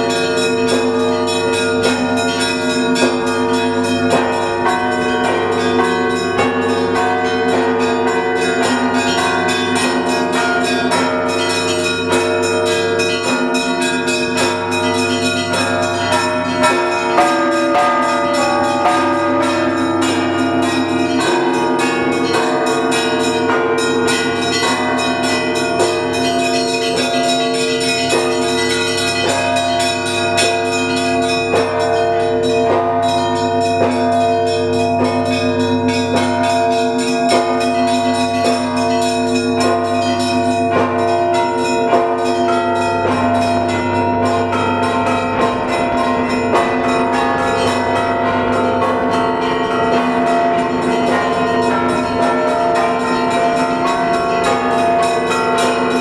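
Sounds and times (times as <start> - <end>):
church bells struck rapidly: 0.0 - 56.0
deep bell ringing tones: 0.0 - 56.0.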